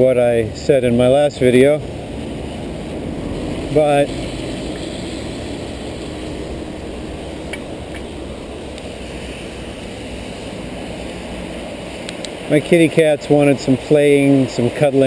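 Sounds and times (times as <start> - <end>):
bicycle tyres on wet road: 0.0 - 15.0.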